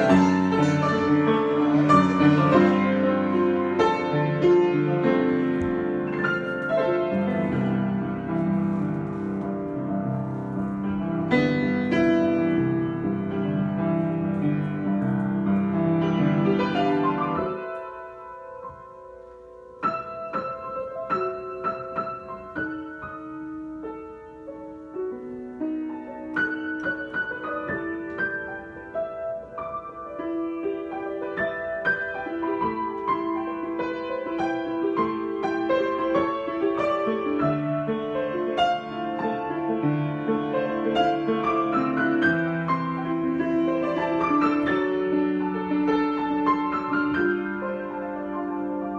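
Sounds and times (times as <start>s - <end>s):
solo piano: 0.0s - 48.9s.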